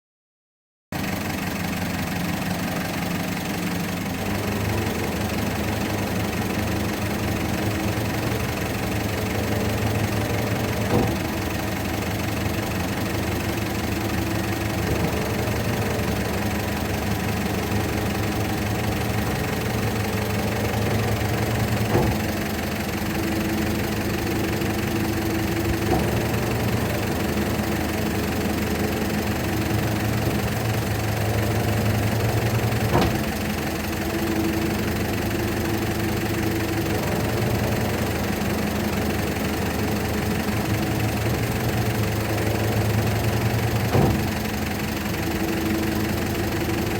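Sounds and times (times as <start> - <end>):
garbage truck engine running: 1.0 - 46.9.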